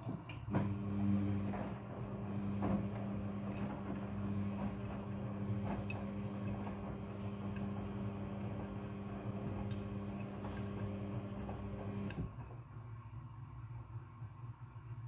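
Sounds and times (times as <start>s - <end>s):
washing machine motor hum: 0.0s - 12.5s.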